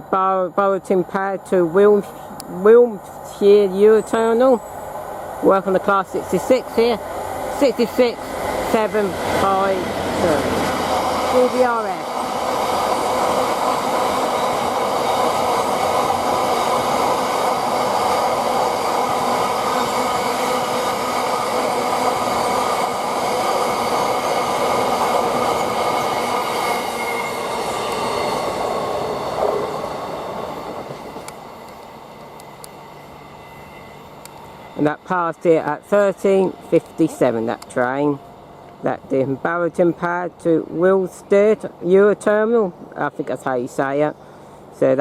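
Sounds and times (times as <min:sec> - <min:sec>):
train wheels rumbling on rails: 0:00.0 - 0:43.5.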